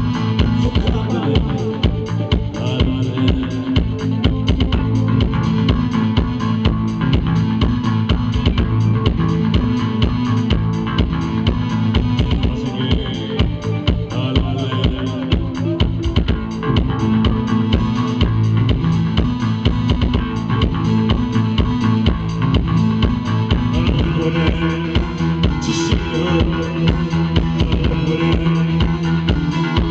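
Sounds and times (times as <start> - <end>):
live rock band playing: 0.0 - 29.9
steady drum beat: 0.0 - 29.9.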